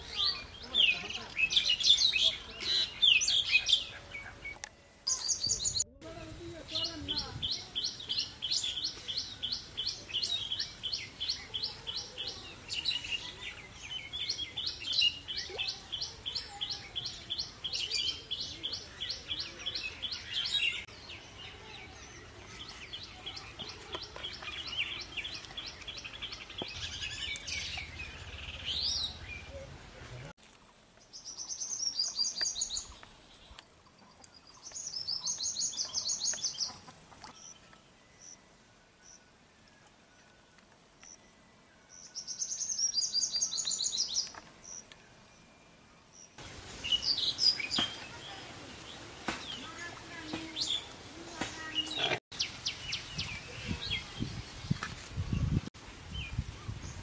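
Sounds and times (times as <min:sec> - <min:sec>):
low outdoor background noise: 0:00.0 - 0:57.0.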